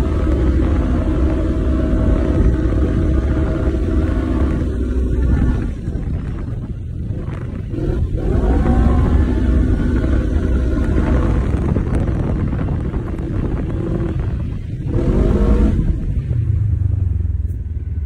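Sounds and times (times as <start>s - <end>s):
off-road vehicle engine revving: 0.0s - 16.8s.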